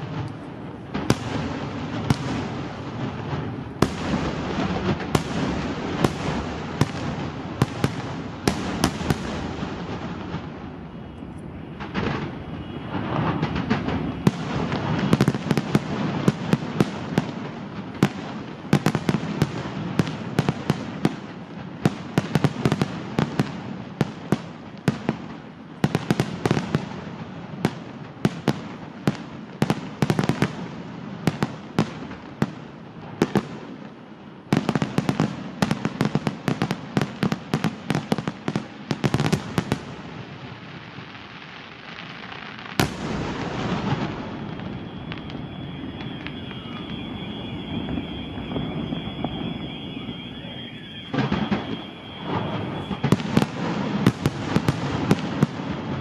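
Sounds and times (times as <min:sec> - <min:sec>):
fireworks cracks and bangs: 0:00.0 - 0:56.0.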